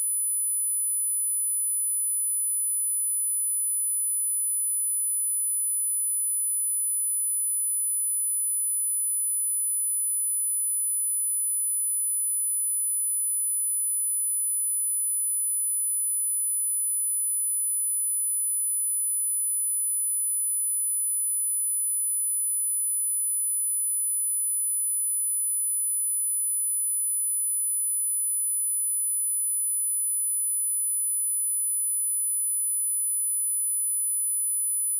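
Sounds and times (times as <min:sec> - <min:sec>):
high-pitched sine-wave test tone: 0:00.0 - 0:34.9.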